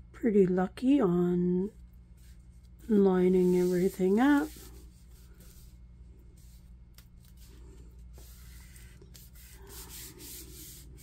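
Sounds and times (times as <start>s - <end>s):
steady low hum: 0.0s - 11.0s
hands rubbing paper: 2.1s - 11.0s.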